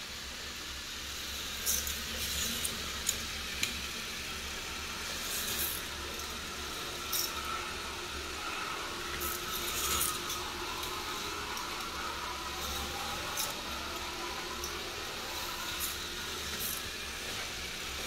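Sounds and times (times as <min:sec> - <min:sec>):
motor-driven chain lift hum: 0:01.6 - 0:18.0
faint steady tones: 0:02.6 - 0:18.0.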